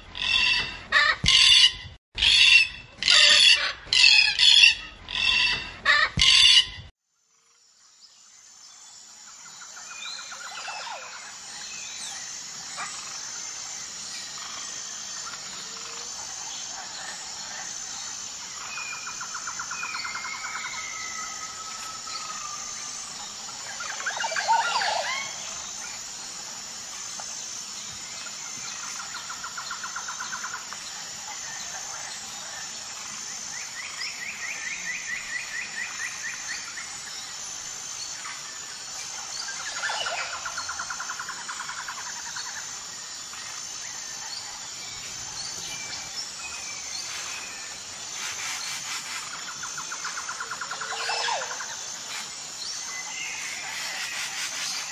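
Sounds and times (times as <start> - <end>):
birds calling with trills: 0.0 - 6.9, 9.3 - 54.9
high pulsing insect chorus: 0.0 - 54.9.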